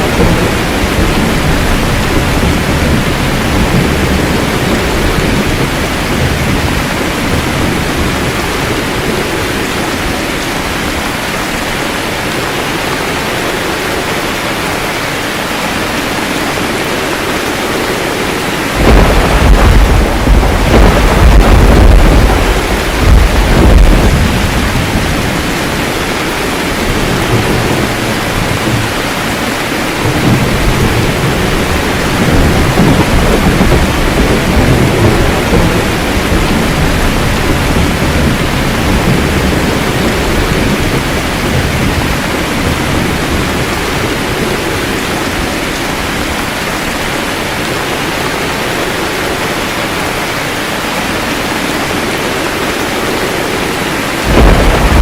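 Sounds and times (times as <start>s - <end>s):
heavy rain: 0.0s - 55.0s
thunder crack and rumble: 0.0s - 55.0s.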